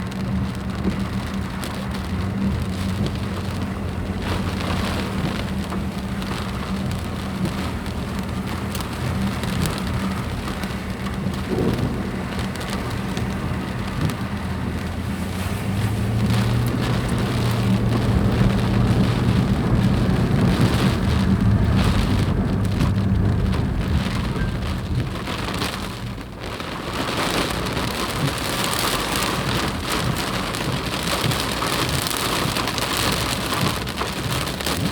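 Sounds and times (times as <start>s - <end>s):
flash-flood water rushing: 0.0s - 34.9s.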